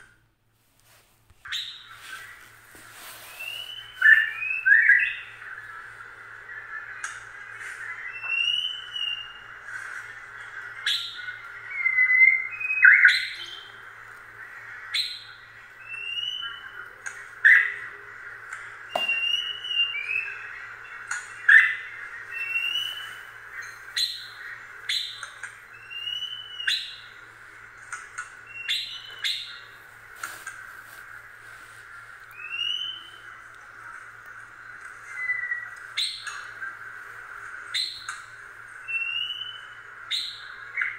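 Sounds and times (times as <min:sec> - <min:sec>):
faint steady hiss: 0:00.0 - 0:40.9.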